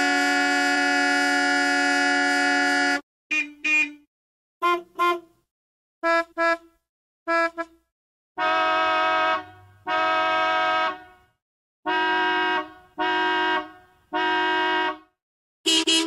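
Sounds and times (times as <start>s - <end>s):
vehicle horn honking: 0.0s - 5.3s, 6.0s - 6.7s, 7.3s - 7.7s, 8.4s - 11.2s, 11.8s - 16.0s.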